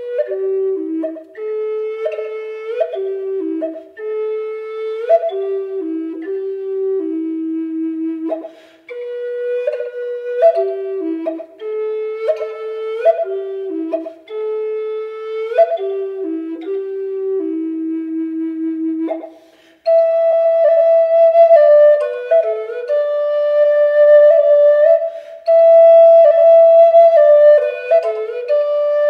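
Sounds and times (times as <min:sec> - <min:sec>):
solo flute melody: 0:00.0 - 0:29.0.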